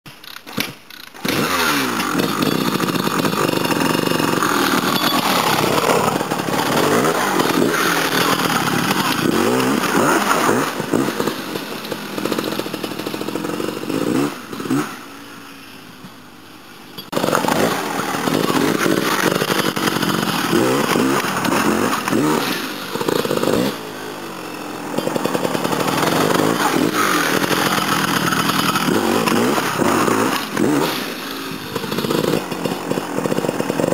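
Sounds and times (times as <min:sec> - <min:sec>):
motorcycle engine revving: 0:00.2 - 0:15.8, 0:17.0 - 0:33.9.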